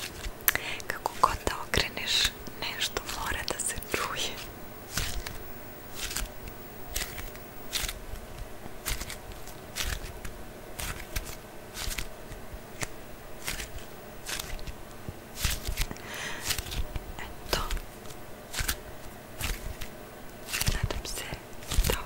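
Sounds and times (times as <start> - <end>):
hands scratching an object: 0.0 - 0.4, 1.1 - 14.8, 15.4 - 16.9, 17.5 - 22.0.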